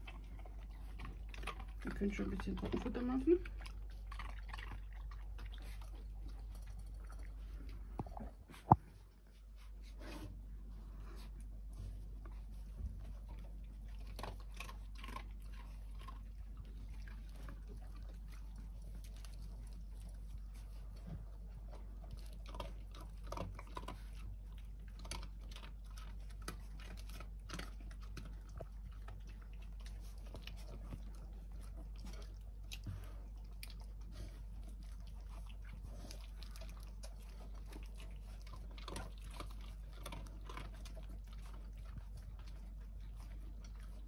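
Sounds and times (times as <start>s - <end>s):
puppies crunching dry kibble: 0.0s - 44.0s.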